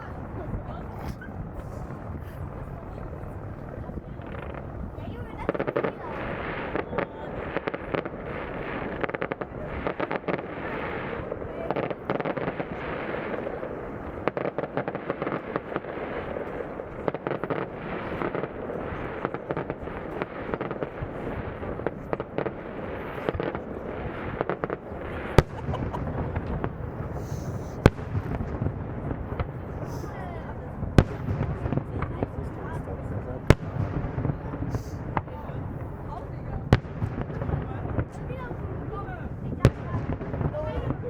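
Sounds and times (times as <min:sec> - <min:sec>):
fireworks crackling and popping: 0:00.0 - 0:41.0
loud firework bangs: 0:00.0 - 0:41.0.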